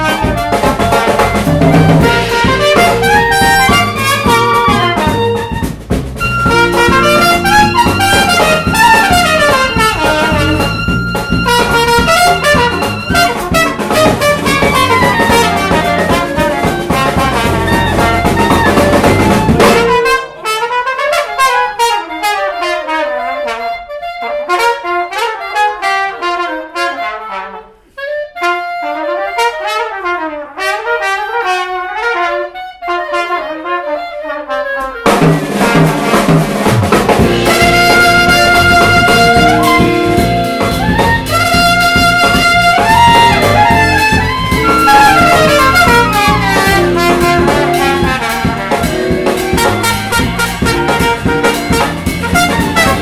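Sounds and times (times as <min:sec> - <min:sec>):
jazz band playing: 0:00.0 - 0:53.0
wind instrument solo: 0:00.0 - 0:53.0.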